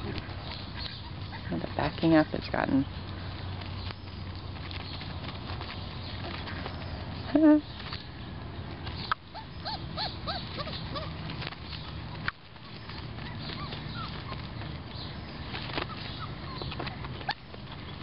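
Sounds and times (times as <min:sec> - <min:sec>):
puppies yipping: 0:00.0 - 0:18.0.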